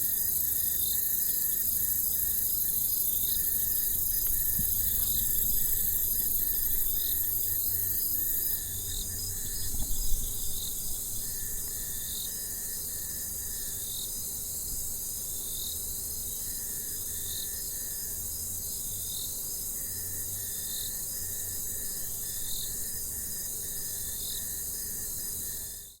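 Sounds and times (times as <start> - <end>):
high-pitched insect chorus: 0.0 - 26.0
pulsed insect trills: 0.0 - 26.0.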